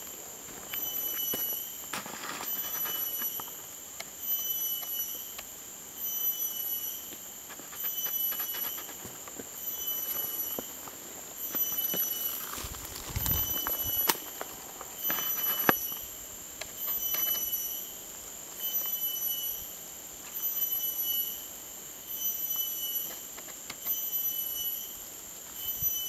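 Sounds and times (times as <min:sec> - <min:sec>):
insect pulsing call: 0:00.0 - 0:26.0
insects high-pitched drone: 0:00.0 - 0:26.0.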